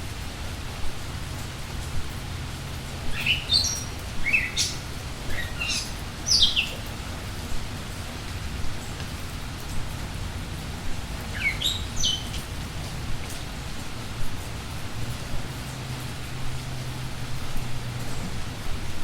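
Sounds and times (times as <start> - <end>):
steady rain: 0.0 - 19.0
songbirds chirping: 1.7 - 18.6.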